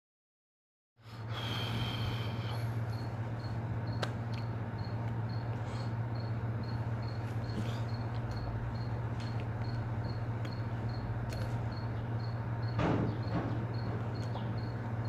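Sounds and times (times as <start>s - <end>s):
steady low hum: 1.0s - 15.0s.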